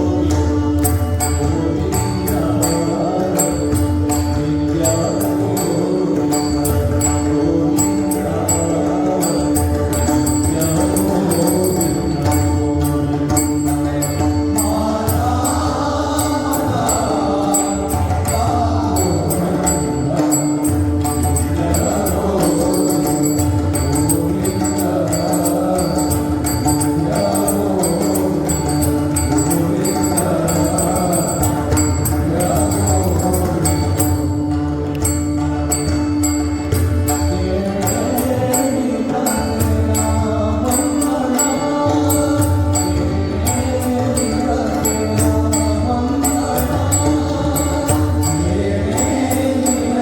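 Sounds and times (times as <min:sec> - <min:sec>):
person singing in chant style: 0:00.0 - 0:34.4, 0:37.1 - 0:50.0
pakhawaj and tabla drumming: 0:00.0 - 0:50.0.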